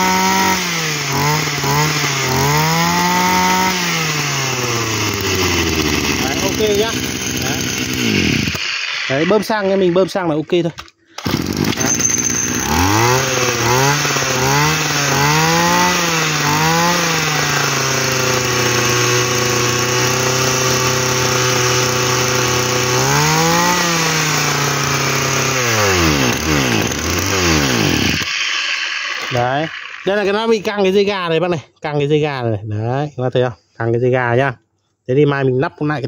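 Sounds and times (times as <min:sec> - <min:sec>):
brush cutter engine revving: 0:00.0 - 0:31.3.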